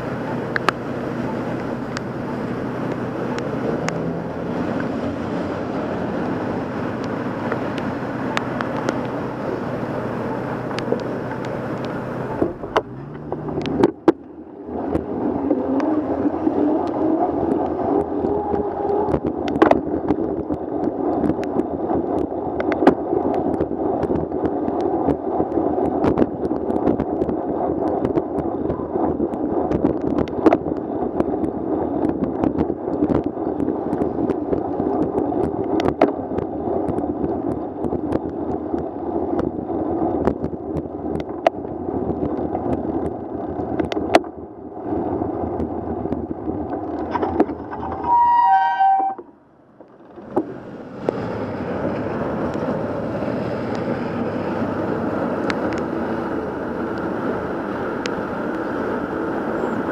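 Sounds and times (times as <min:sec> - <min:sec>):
wind: 0:00.0 - 0:59.9.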